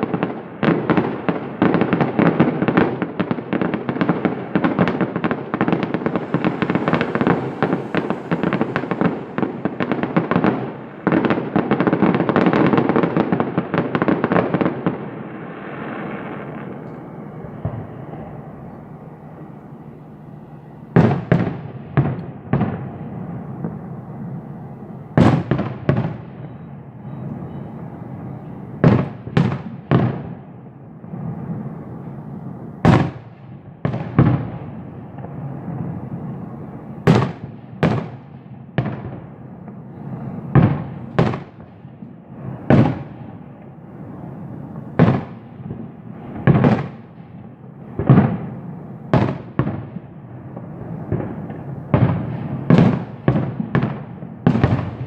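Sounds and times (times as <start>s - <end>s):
fireworks bangs: 0.0s - 55.0s
rumbling background noise: 0.0s - 55.0s.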